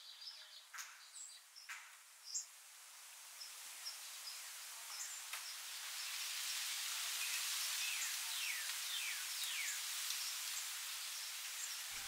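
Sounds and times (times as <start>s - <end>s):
steady high hiss: 1.2s - 12.0s.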